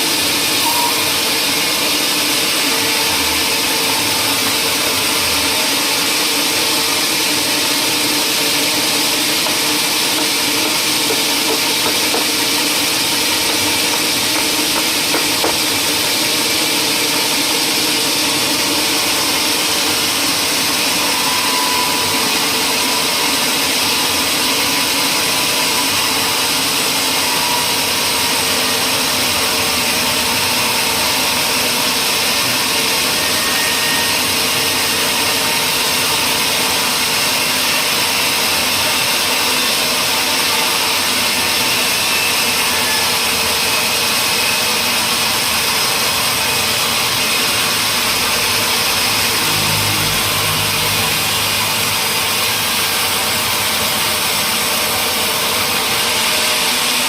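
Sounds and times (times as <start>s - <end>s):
woodworking machinery whirring: 0.0s - 57.0s.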